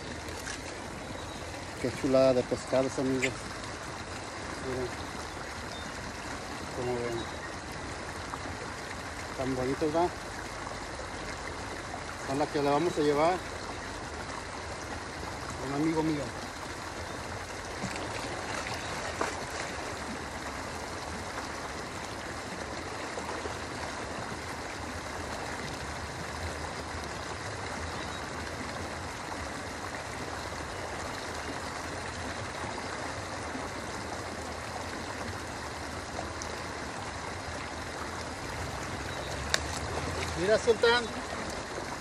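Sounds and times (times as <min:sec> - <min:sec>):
river water flowing over concrete: 0:00.0 - 0:42.0.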